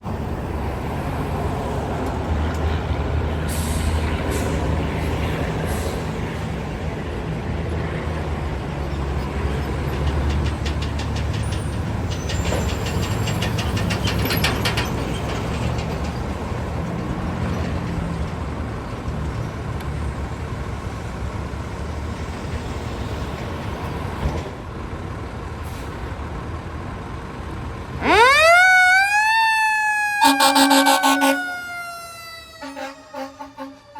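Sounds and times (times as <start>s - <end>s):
fire engine engine running: 0.0s - 33.9s.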